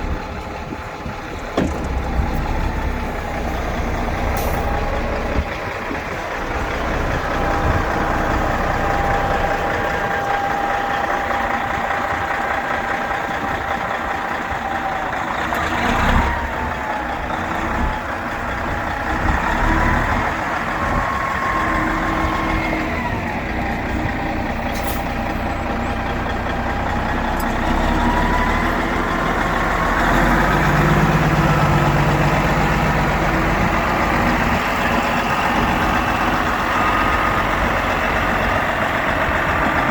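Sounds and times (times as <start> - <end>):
engine whine: 0.0 - 39.9
truck diesel engine running: 0.0 - 39.9.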